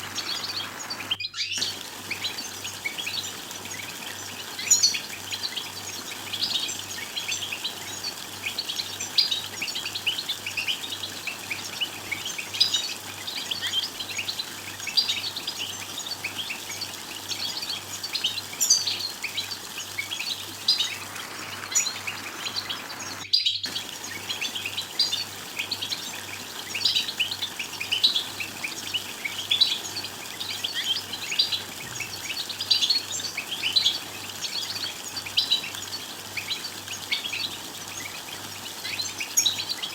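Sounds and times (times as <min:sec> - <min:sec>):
goldfinch twittering: 0:00.0 - 0:39.9.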